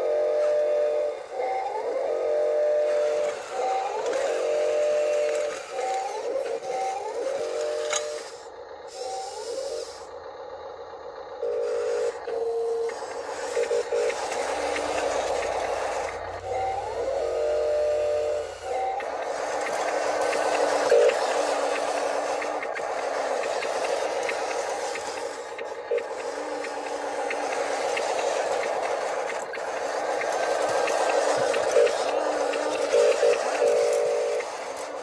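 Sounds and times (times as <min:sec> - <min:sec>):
motor whine: 0:00.0 - 0:35.0
toy motors and gears whirring: 0:00.0 - 0:35.0.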